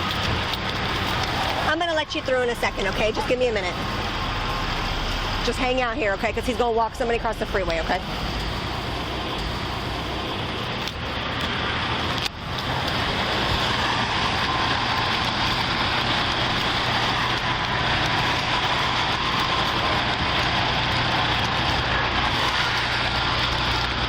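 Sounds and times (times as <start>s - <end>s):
idling vehicles hiss: 0.0s - 24.0s
road noise: 0.0s - 24.0s.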